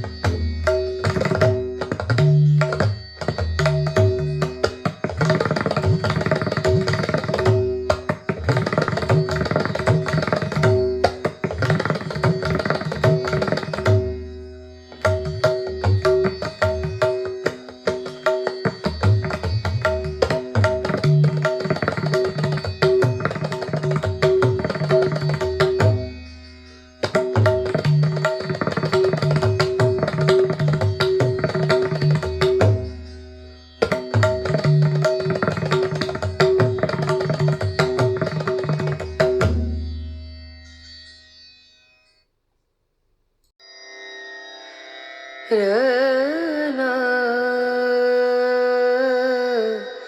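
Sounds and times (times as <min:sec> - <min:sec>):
fast tabla strokes: 0:00.0 - 0:40.6.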